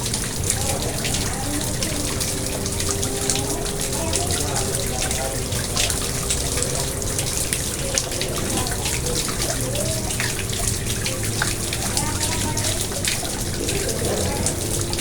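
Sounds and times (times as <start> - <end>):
water trickling into a pond: 0.0 - 15.0.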